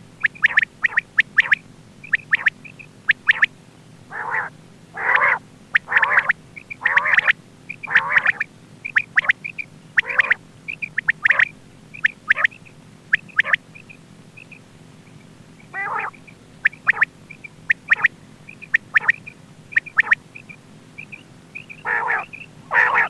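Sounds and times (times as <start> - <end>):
quail calling: 0.2 - 3.5, 4.1 - 23.0.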